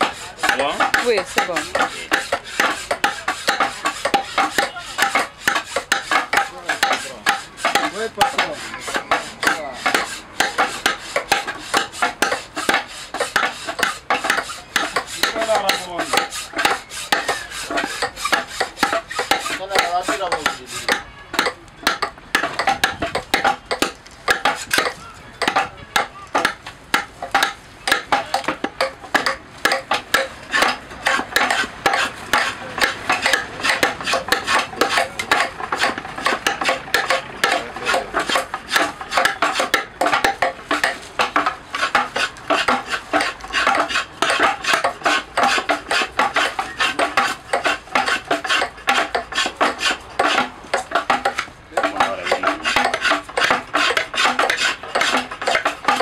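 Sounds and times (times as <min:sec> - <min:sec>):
adze chipping wood: 0:00.0 - 0:56.0.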